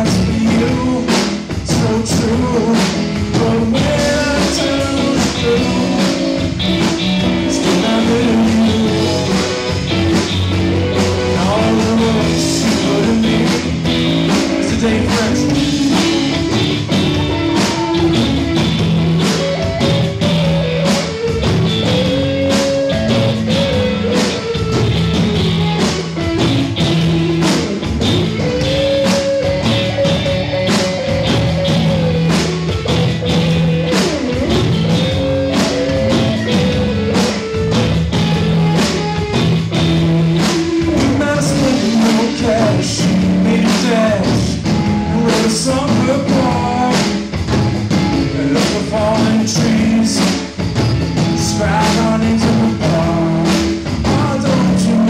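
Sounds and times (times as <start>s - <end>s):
bending melodic guitar line: 0.0s - 55.0s
live rock band playing: 0.0s - 55.0s.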